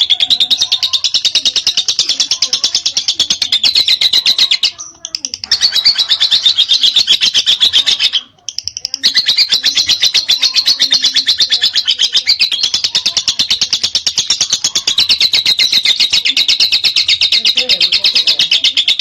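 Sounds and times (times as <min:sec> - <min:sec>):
lovebird chattering: 0:00.0 - 0:19.0.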